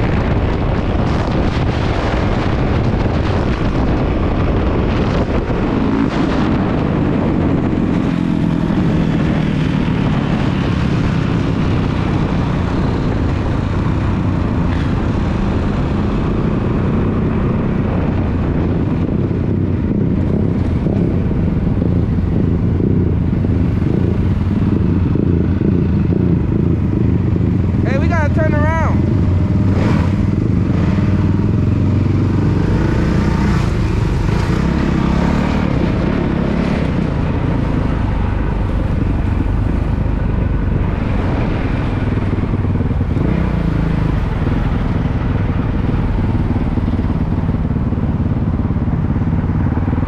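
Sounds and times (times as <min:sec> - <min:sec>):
dirt bike engine running: 0:00.0 - 0:50.0
wind rushing over microphone: 0:00.0 - 0:50.0.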